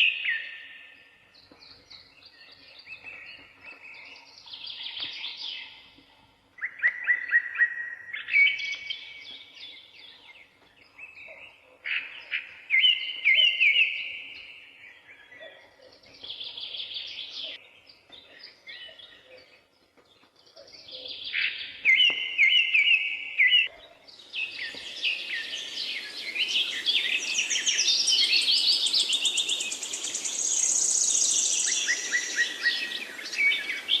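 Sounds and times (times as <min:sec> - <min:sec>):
songbirds singing: 0:00.0 - 0:34.0
chorus of birds calling: 0:06.6 - 0:34.0.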